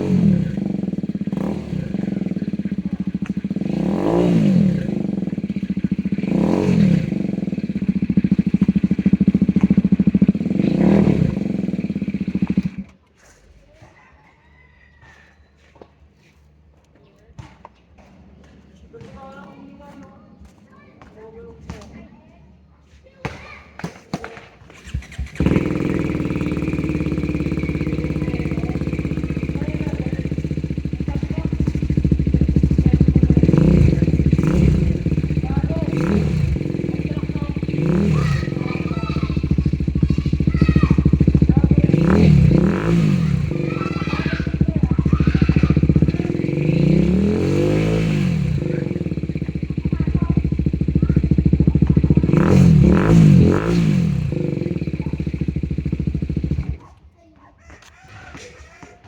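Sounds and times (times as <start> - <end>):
motorcycle engine idling: 0.0 - 15.6, 24.7 - 59.0.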